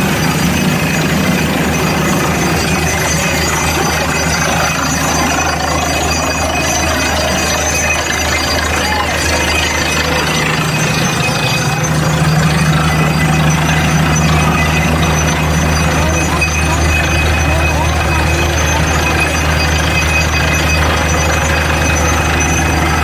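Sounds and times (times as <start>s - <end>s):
drilling rattle: 0.0s - 23.0s
heavy engine drone: 0.0s - 23.0s.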